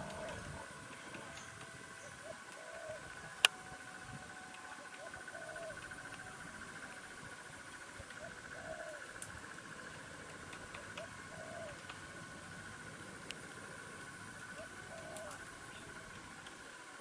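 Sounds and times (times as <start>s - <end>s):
pulsing insect trill: 0.0s - 17.0s.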